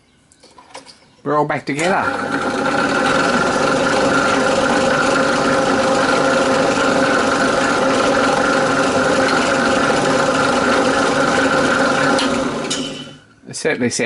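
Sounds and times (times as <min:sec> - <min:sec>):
drill press motor humming with whine: 0:01.8 - 0:13.2.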